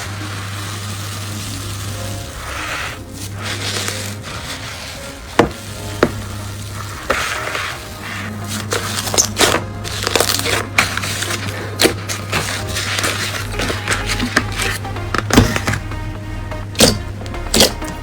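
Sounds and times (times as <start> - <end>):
slime squishing and crackling: 0.0 - 15.9, 16.6 - 18.0.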